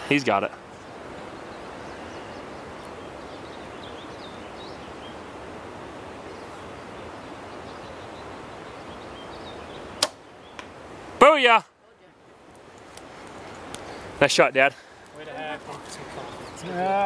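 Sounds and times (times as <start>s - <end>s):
birds chirping: 0.0s - 17.0s
wind: 0.0s - 17.0s.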